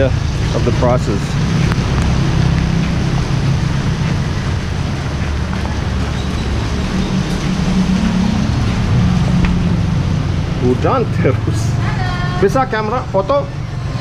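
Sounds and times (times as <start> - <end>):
street traffic: 0.0 - 14.0
vehicle engine humming: 0.0 - 14.0.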